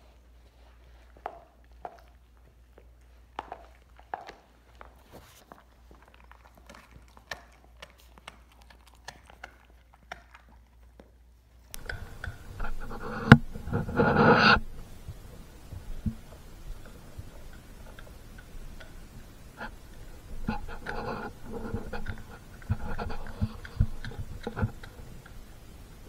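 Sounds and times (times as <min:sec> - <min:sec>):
dog chewing bone: 0:00.8 - 0:26.0.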